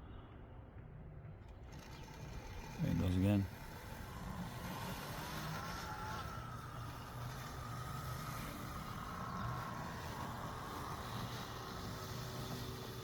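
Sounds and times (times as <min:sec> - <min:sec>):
faint high whine: 0:00.0 - 0:13.0
robotic lawn mower running: 0:01.4 - 0:13.0.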